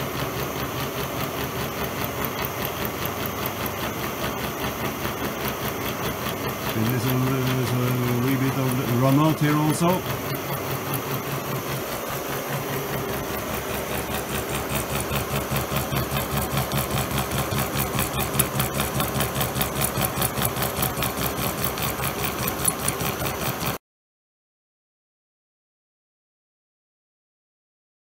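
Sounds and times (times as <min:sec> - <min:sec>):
milling machine cutting gear: 0:00.0 - 0:23.8.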